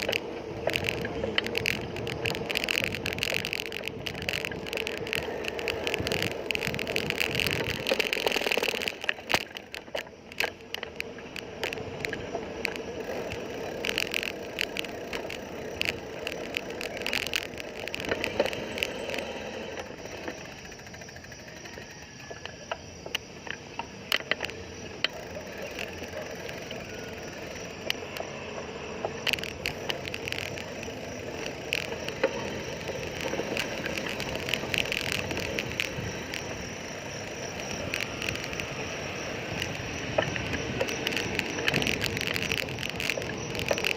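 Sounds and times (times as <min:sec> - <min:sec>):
bicycle clicks and rattles: 0:00.0 - 0:43.9
rushing road noise: 0:00.0 - 0:43.9.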